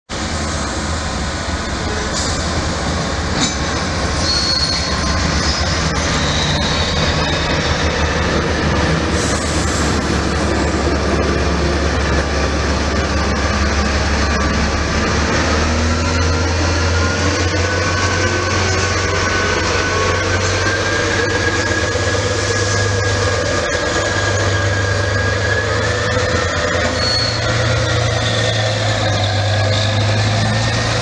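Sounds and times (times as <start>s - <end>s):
diesel locomotive engine drone: 0.1s - 31.0s
high wheel squeals: 3.4s - 10.8s, 13.0s - 31.0s.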